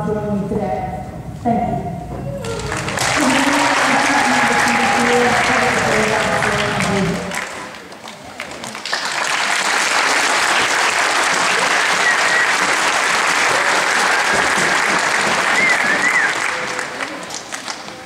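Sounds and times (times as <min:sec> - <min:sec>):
audience applauding: 0:02.4 - 0:18.0.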